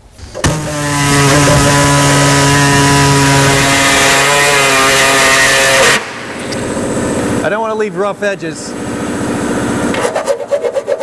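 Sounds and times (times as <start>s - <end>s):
reciprocating saw cutting sheet metal: 0.2s - 7.5s, 9.0s - 11.0s.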